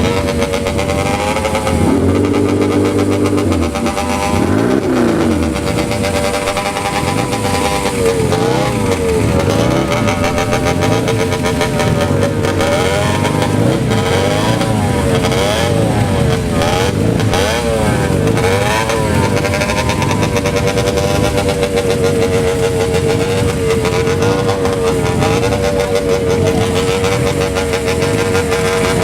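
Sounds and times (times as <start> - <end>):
engine revving and idling: 0.0 - 29.0.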